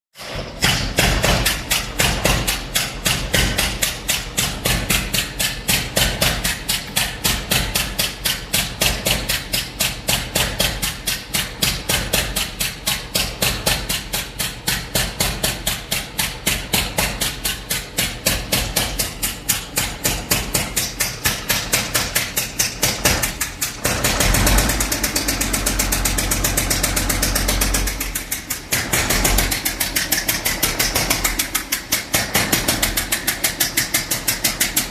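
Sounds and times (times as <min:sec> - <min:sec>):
rough diesel truck engine: 0:00.2 - 0:34.9.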